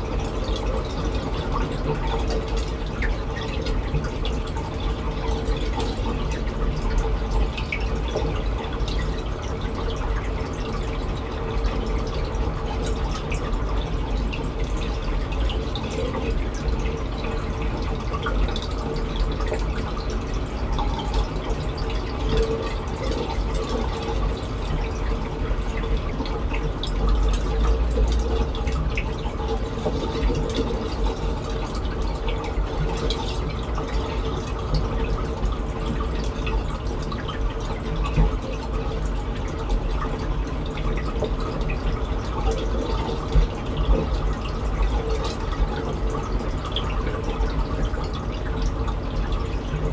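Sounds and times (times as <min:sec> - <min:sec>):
small drips and splashes: 0:00.0 - 0:49.9
water trickling: 0:00.0 - 0:49.9.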